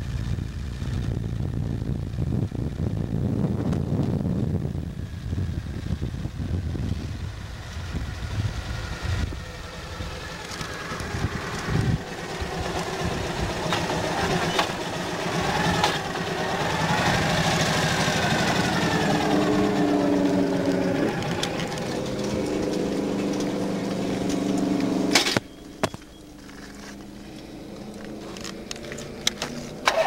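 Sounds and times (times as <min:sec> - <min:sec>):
motorcycle engine rumble: 0:00.0 - 0:30.0.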